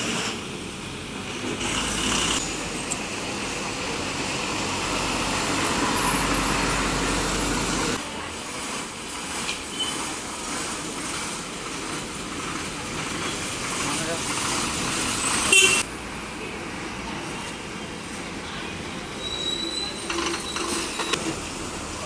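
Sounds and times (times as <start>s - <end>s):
diesel bus engines: 0.0s - 22.0s
street traffic noise: 0.0s - 22.0s.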